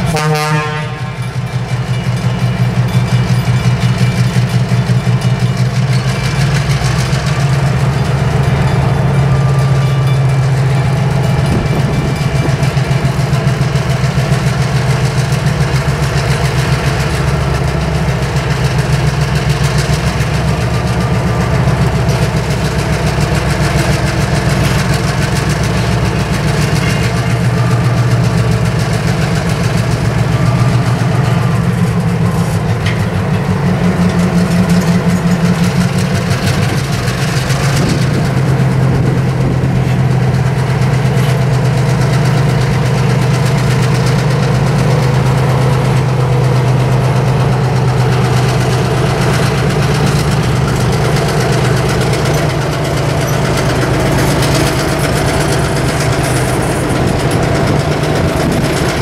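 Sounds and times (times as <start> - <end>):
locomotive diesel engine throbbing: 0.0 - 59.0.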